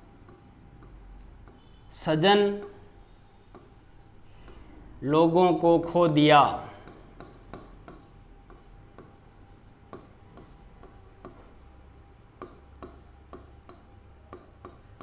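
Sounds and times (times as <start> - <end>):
pen tapping and scratching on screen: 0.0 - 15.0.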